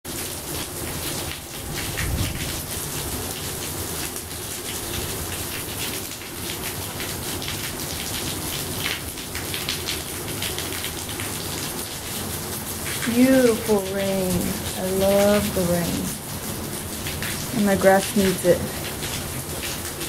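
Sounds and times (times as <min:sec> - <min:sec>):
rain falling and splashing: 0:00.1 - 0:20.0.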